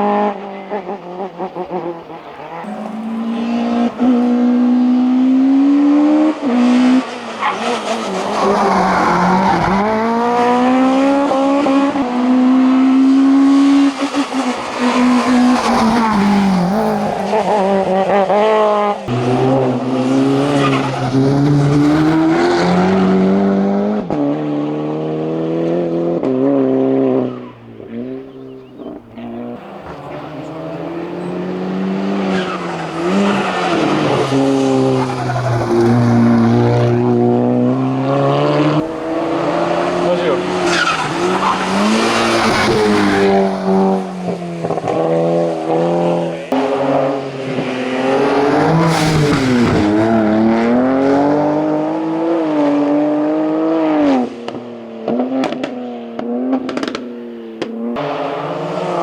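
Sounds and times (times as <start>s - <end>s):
racing car engine revving hard: 0.0s - 59.0s.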